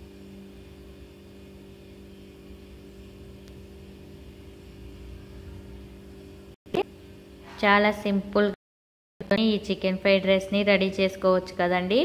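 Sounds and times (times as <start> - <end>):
low electrical hum: 0.0 - 8.6, 9.2 - 12.0.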